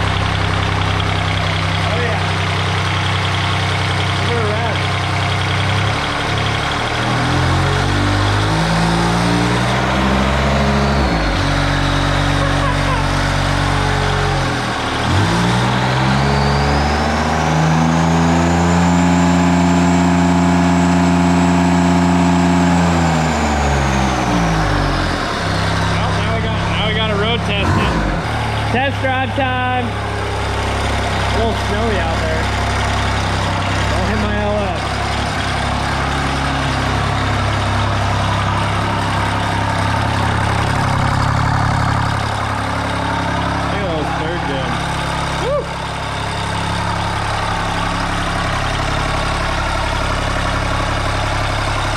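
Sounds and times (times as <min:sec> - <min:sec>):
diesel mower engine revving: 0:00.0 - 0:51.9.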